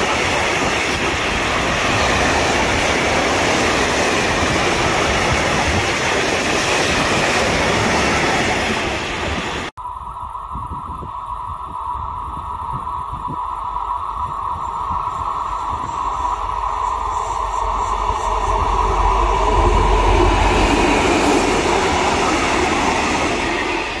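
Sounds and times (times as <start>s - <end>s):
freight train rumbling past: 0.0s - 9.7s, 13.7s - 24.0s.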